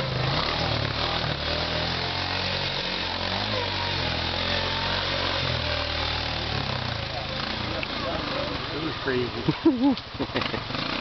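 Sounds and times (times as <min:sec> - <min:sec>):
quad engine under throttle: 0:00.0 - 0:11.0.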